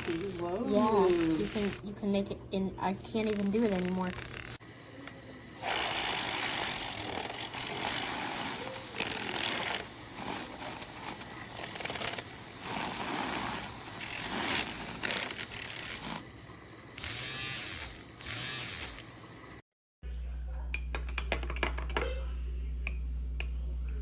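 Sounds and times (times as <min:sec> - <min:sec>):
milk frother whirring: 0:00.0 - 0:19.6.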